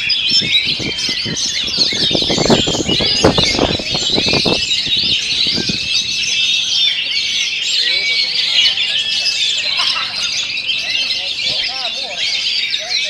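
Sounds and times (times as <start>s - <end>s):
bird singing chirps and trills: 0.0s - 13.0s.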